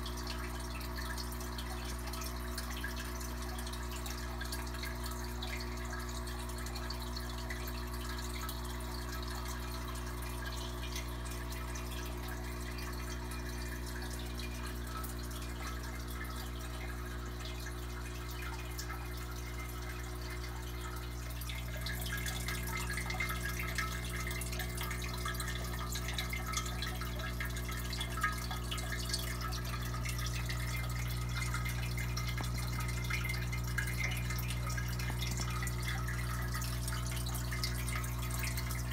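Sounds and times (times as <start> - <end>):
filter humming: 0.0 - 38.9
water splashing into tank: 0.0 - 38.9.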